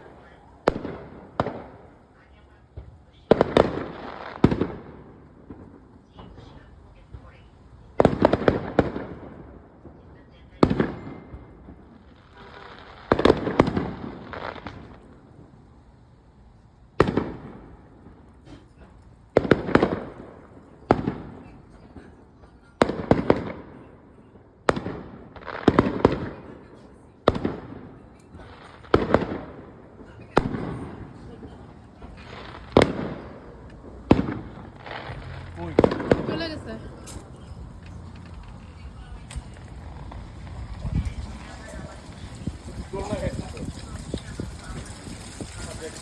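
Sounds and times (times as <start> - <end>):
fireworks bangs: 0.0 - 46.0.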